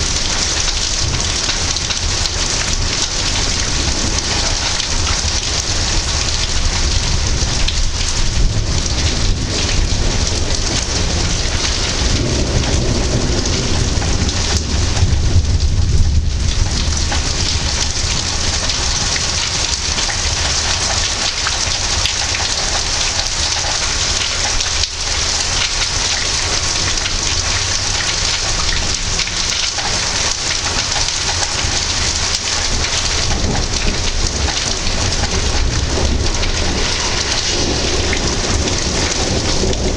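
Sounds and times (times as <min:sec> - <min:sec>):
low rumble of thunder: 0:00.0 - 0:39.9
rain falling: 0:00.0 - 0:39.9.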